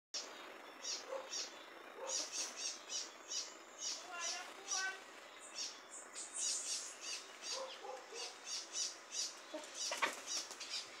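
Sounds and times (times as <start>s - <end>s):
bird chirping: 0.2s - 11.0s
low short bird calls: 0.2s - 11.0s.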